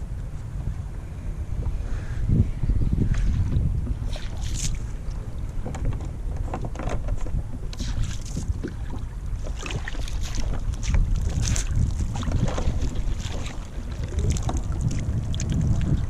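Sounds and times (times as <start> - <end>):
wind buffeting microphone: 0.0 - 16.0
water splashing against kayak: 3.1 - 16.0.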